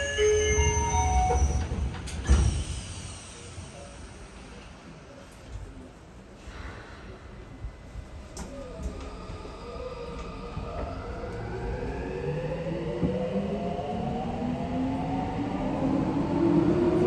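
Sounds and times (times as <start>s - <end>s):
low train rumble: 0.0s - 17.0s.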